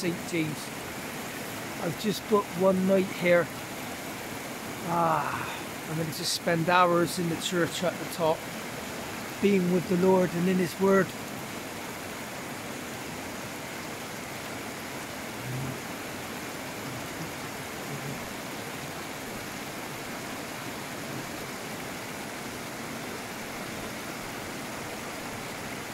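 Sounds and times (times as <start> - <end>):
river rushing over weir: 0.0 - 25.9.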